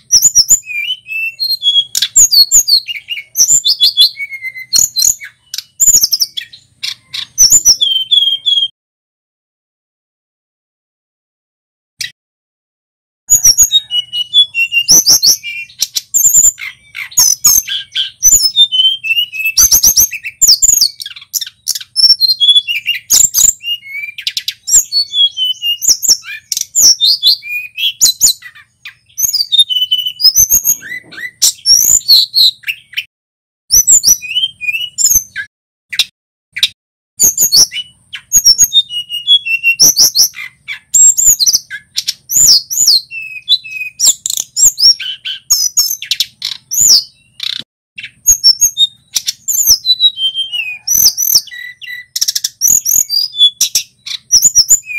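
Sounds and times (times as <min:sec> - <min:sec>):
bird singing chirps and trills: 0:00.0 - 0:08.7, 0:13.3 - 0:33.1, 0:33.7 - 0:54.9.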